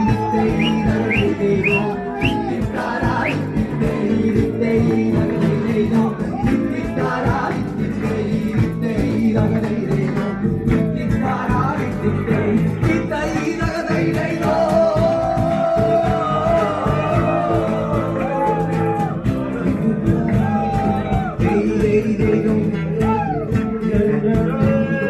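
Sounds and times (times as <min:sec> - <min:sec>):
guitar and drums playing: 0:00.0 - 0:25.0
person singing: 0:00.0 - 0:25.0.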